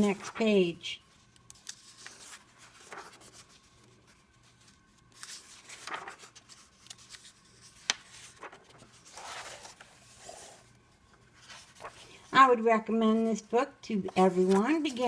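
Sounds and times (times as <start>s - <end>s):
paper pages turning: 0.0s - 12.3s, 14.0s - 15.0s.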